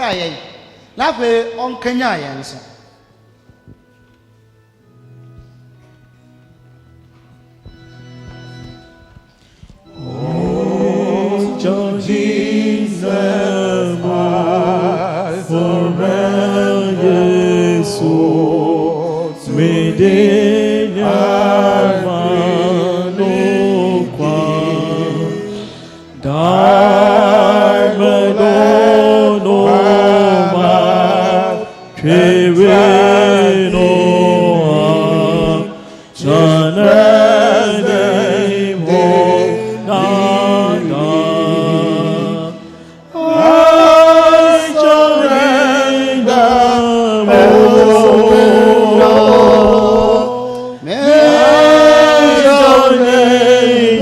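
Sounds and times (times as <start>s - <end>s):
voices singing a slow hymn: 9.6s - 54.0s.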